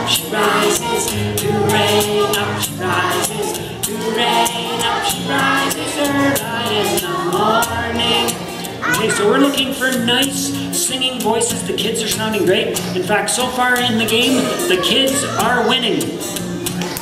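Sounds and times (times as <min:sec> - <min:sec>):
children's song singing: 0:00.0 - 0:17.0.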